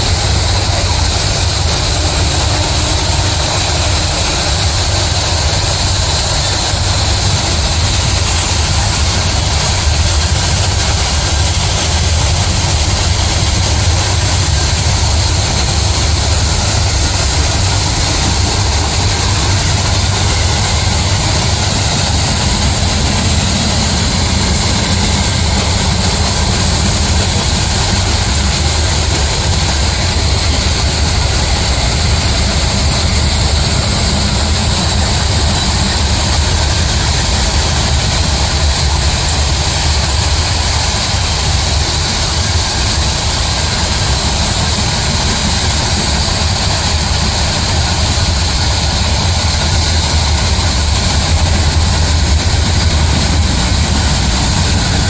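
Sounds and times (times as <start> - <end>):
heavy engine rumbling: 0.0 - 55.0.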